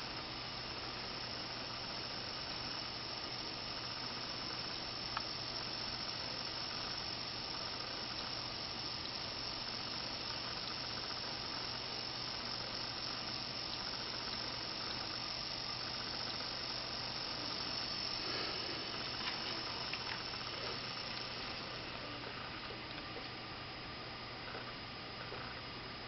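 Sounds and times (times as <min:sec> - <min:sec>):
electric fan whining: 0:00.0 - 0:26.0.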